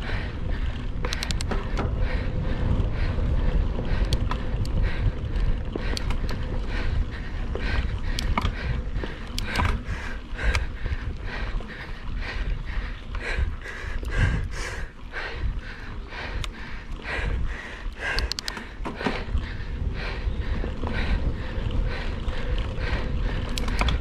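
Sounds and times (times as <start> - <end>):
bike clicks and rattles: 0.0 - 24.0
bike tyre rumble on trail: 0.0 - 24.0
wind buffeting microphone: 0.0 - 24.0.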